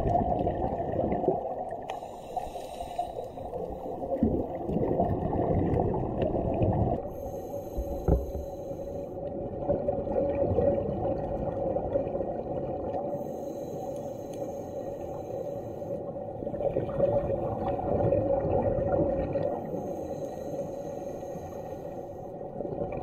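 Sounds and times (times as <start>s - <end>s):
underwater rumble: 0.0s - 23.0s.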